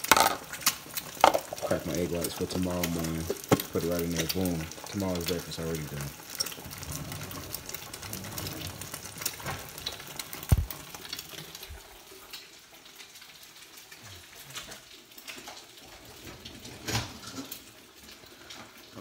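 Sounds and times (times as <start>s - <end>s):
omelet sizzling in a frying pan: 0.0s - 19.0s.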